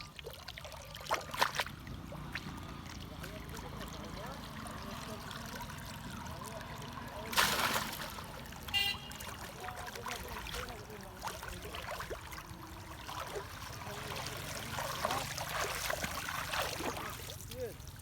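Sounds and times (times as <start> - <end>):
small water drips and plops: 0.0 - 18.0
water trickling and splashing: 0.0 - 18.0.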